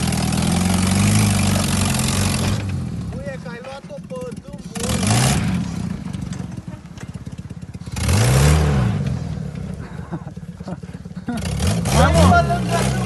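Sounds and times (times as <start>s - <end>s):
car engine revving: 0.0s - 3.2s, 4.1s - 13.0s.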